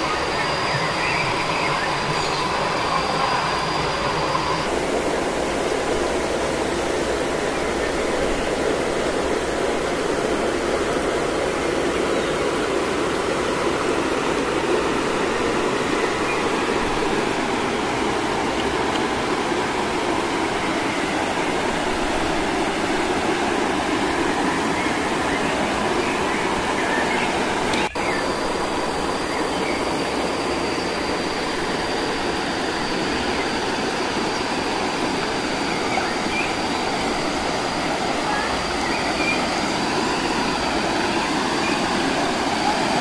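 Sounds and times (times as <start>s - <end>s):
flowing water rushing: 0.0s - 43.0s.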